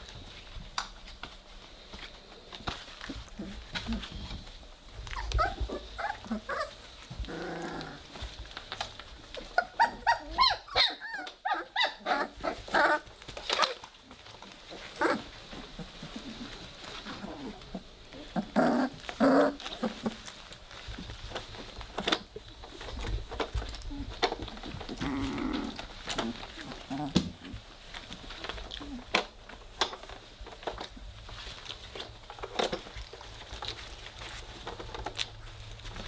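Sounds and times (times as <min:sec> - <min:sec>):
puppies growling: 0:02.8 - 0:36.0.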